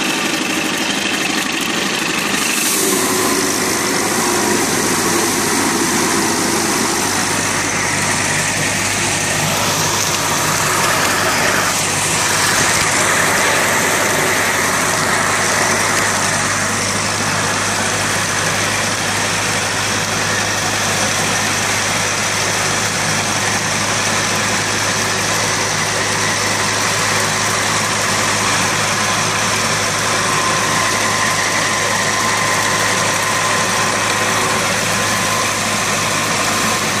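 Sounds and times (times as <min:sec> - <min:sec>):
tractor engine and mill grinding: 0:00.0 - 0:37.0.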